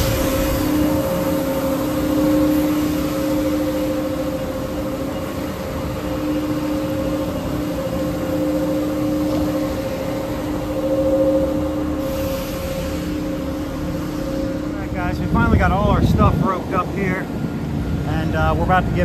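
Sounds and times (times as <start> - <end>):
industrial machinery drone: 0.0 - 19.0
low machine hum: 0.0 - 19.0.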